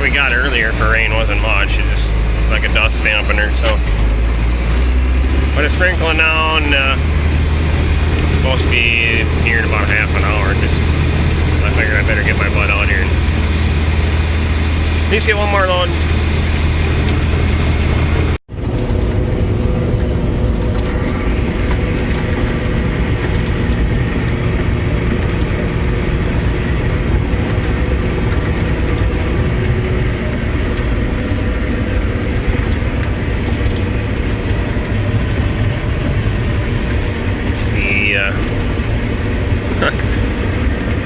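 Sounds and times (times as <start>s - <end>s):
tractor and forage chopper running: 0.0s - 41.0s.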